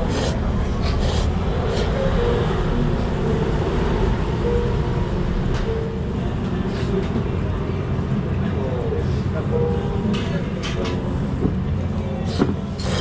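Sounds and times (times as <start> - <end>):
kitchen and ventilation rumble: 0.0 - 13.0.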